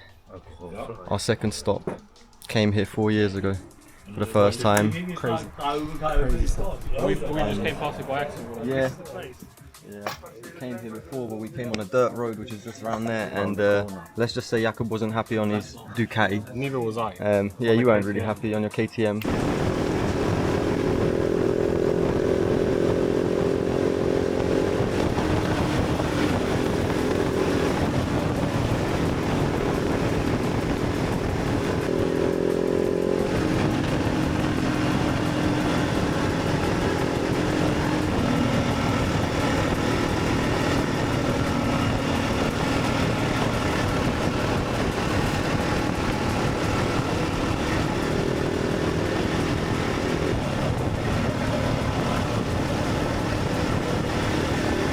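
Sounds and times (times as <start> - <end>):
motorcycle engine revving: 0.0 - 9.8, 19.2 - 54.9.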